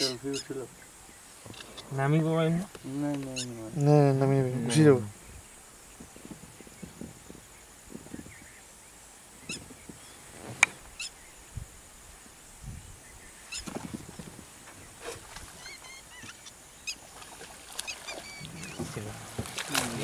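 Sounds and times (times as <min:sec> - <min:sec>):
birds calling: 0:00.0 - 0:11.7, 0:12.3 - 0:20.0
faint wetland background: 0:00.0 - 0:20.0.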